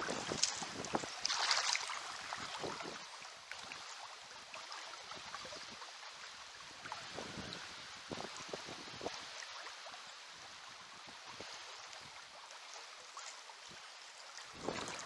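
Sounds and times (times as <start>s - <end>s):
river water lapping: 0.0s - 15.0s
small water splashes: 0.0s - 15.0s.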